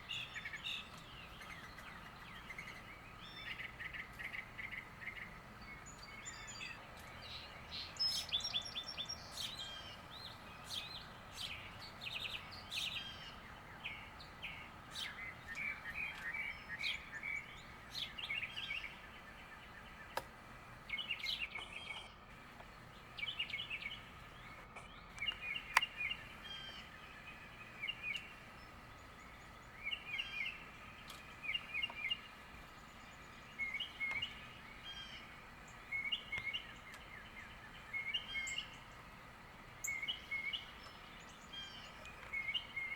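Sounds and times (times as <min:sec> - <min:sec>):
small songbirds chirping: 0:00.0 - 0:42.9.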